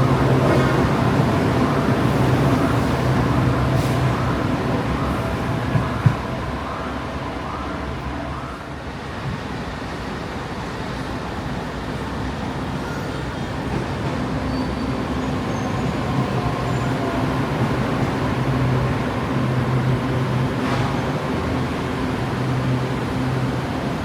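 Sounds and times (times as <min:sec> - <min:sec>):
metro train rumble and hum: 0:00.0 - 0:24.0.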